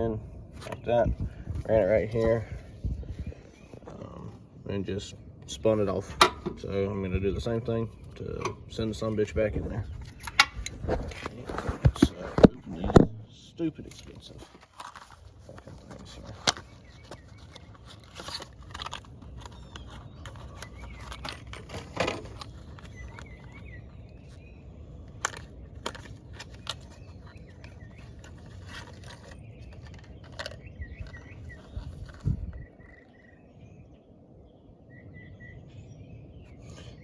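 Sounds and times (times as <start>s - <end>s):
low outdoor rumble: 0.0s - 37.0s
small birds chirping: 0.0s - 37.0s.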